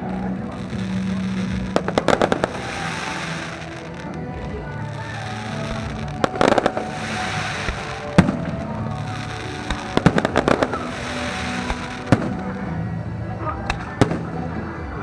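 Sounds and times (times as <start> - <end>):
fireworks bangs: 0.0 - 14.8
crackling firework bursts: 0.0 - 15.0
music playing: 0.0 - 15.0.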